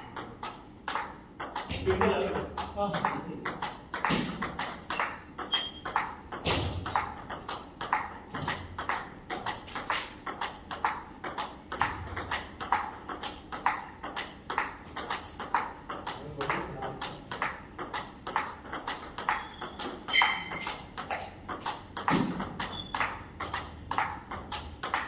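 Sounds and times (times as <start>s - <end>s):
table tennis ball clicking: 0.0s - 25.0s.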